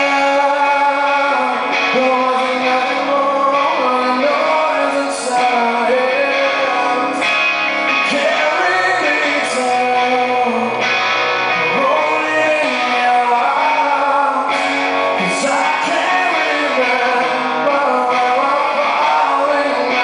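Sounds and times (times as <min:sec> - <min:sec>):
man singing long notes: 0:00.0 - 0:07.3, 0:08.0 - 0:10.9, 0:11.5 - 0:20.0
electric guitar and band: 0:00.0 - 0:20.0.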